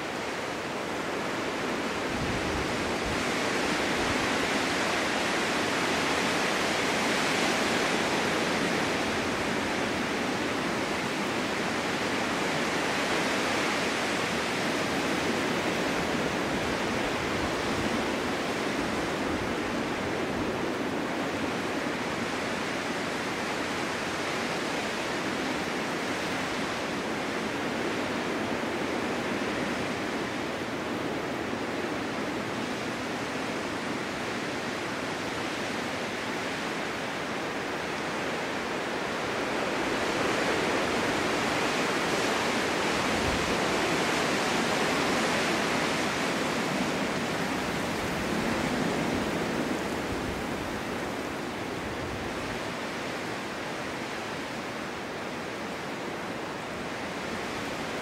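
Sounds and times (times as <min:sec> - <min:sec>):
snowstorm wind hissing: 0:00.0 - 0:58.0.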